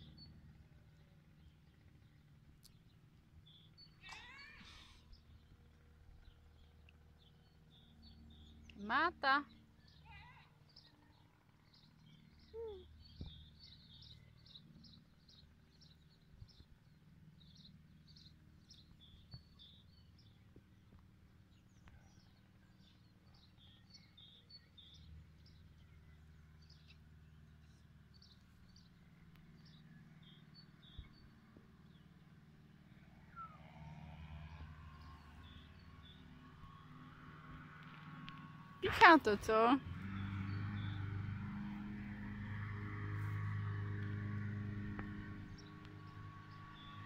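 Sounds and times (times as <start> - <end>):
songbird chirping: 0.0 - 32.3, 34.6 - 42.6.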